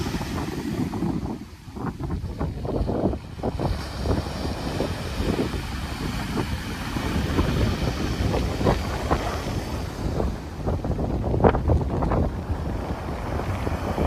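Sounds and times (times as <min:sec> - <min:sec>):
waves breaking on sand: 0:00.0 - 0:14.0
wind buffeting microphone: 0:00.0 - 0:14.0.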